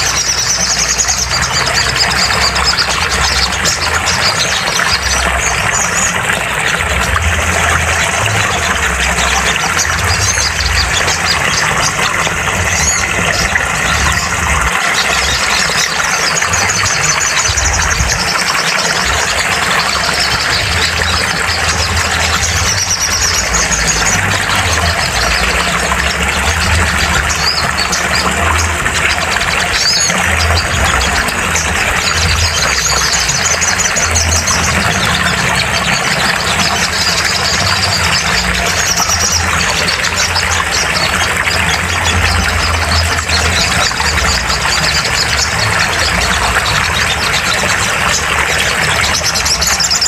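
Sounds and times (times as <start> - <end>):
bird chirping trills: 0.0 - 50.0
steady noisy drone: 0.0 - 50.0.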